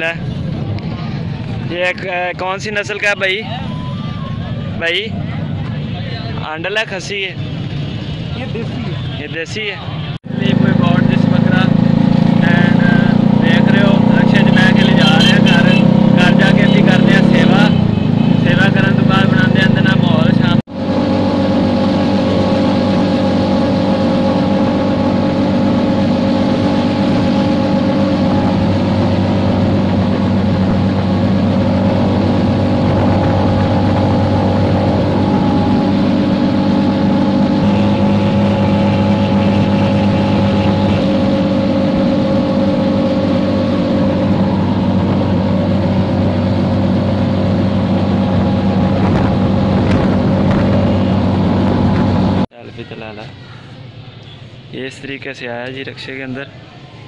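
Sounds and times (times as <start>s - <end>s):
motor rickshaw engine running: 0.0s - 57.0s.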